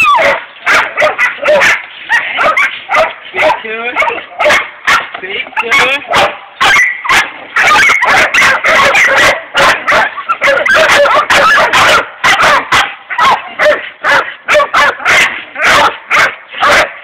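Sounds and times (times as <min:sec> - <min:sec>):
dogs barking loudly: 0:00.0 - 0:17.0.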